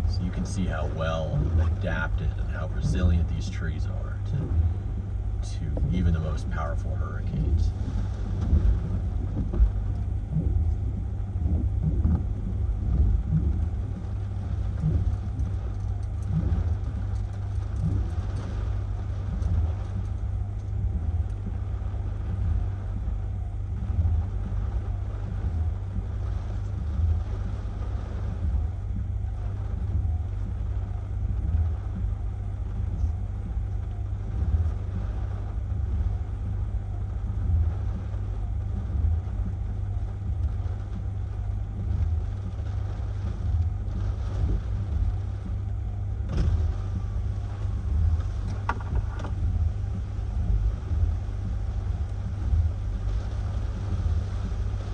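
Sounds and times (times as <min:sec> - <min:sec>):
strong wind buffeting microphone: 0:00.0 - 0:54.9.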